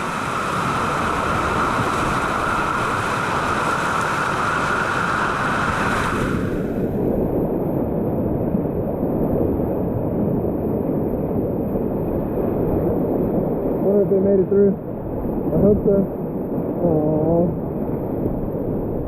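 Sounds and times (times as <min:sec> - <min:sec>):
water noise on microphone: 0:00.0 - 0:13.9, 0:14.8 - 0:19.0.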